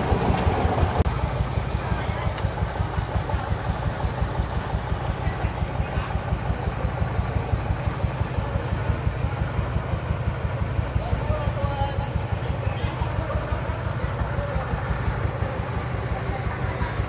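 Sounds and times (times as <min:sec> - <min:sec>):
truck engine chugging: 0:00.0 - 0:17.0.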